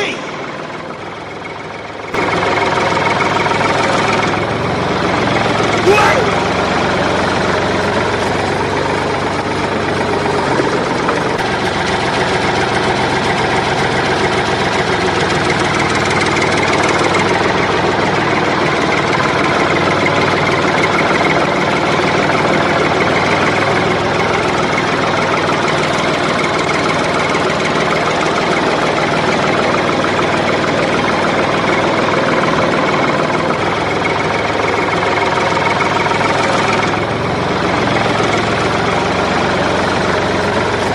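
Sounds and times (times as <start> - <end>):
toy tractor engine running: 6.4 - 40.9.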